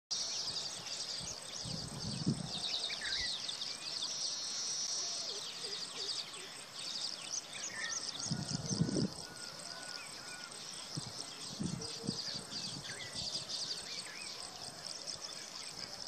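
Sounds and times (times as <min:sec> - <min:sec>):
birds chirping in a group: 0:00.1 - 0:16.0.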